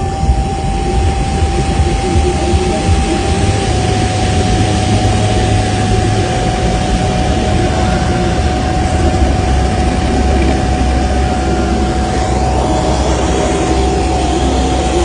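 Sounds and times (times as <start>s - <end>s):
car wash machinery rushing: 0.0s - 15.0s
high whine: 0.0s - 15.0s
low rumble: 0.0s - 15.0s.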